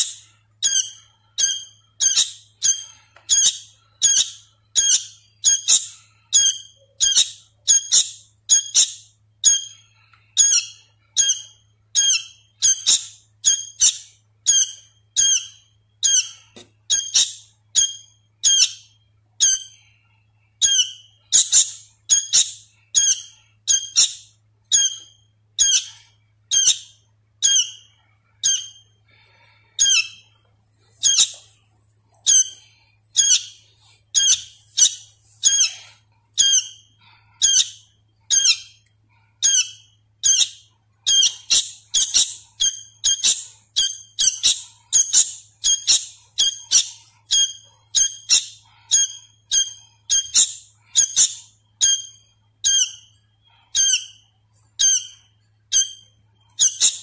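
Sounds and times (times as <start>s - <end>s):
fledgling bird high calls: 0.0s - 20.0s, 20.6s - 31.6s, 32.2s - 57.0s.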